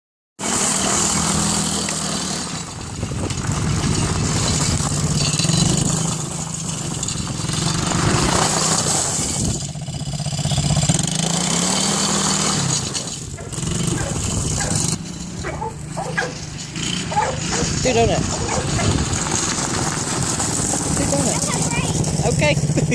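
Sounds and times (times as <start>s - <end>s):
atv engine revving: 0.4s - 22.9s.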